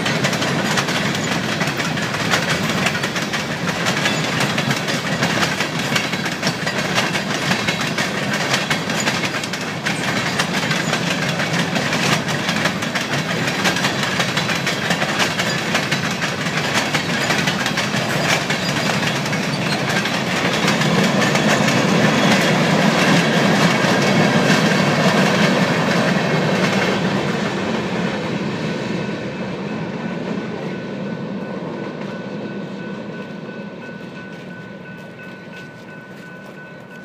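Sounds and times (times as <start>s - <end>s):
freight train wheels clicking: 0.0s - 37.0s.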